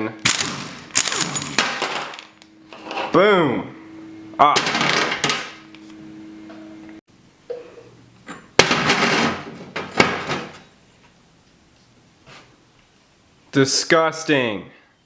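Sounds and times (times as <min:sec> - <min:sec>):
steady hum: 0:00.0 - 0:13.7.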